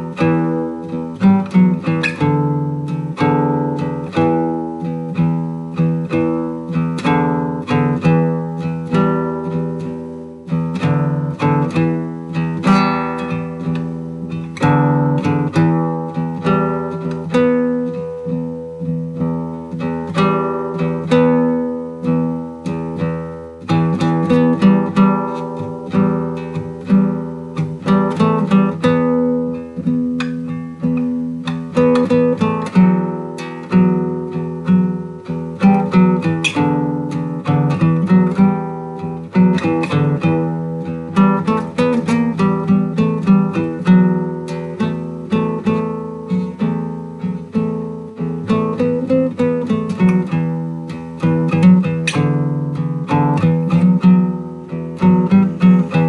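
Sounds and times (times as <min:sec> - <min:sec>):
fingerstyle acoustic guitar: 0:00.0 - 0:56.0.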